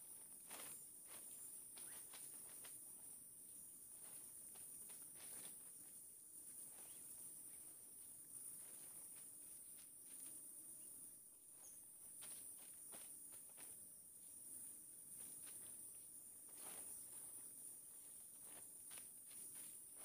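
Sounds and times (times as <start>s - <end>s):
soft footsteps: 0.0s - 3.2s, 3.8s - 20.0s
crickets chirping: 0.0s - 20.0s.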